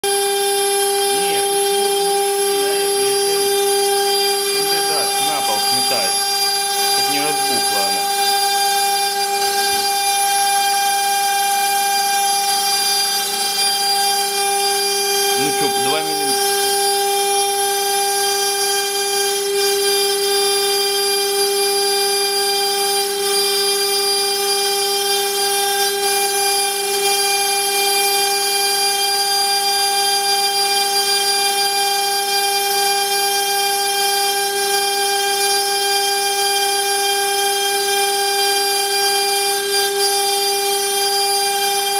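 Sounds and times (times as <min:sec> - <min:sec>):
router spindle whining: 0:00.0 - 0:41.9.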